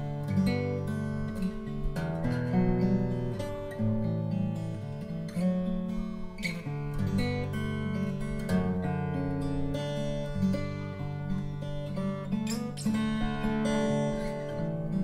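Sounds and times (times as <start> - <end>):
acoustic guitar fingerstyle melody: 0.0 - 15.0.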